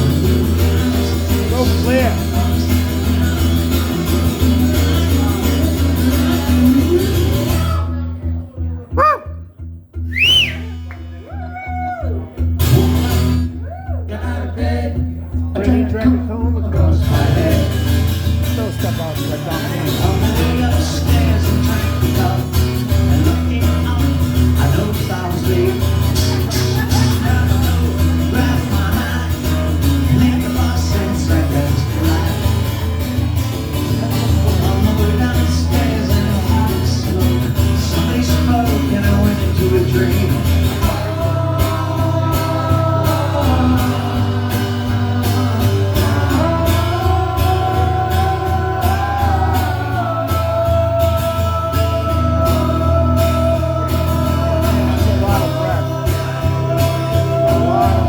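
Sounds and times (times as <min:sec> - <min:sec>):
rock music with guitar and bass: 0:00.0 - 0:13.7, 0:14.4 - 0:58.0.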